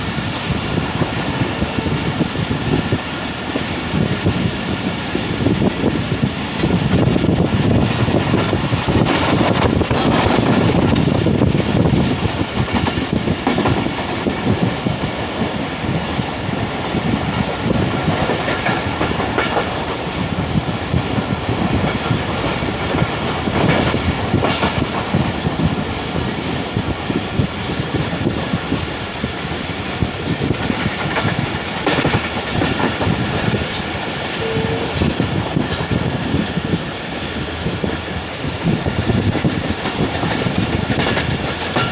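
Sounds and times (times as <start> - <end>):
train carriages rumbling: 0.0 - 41.9.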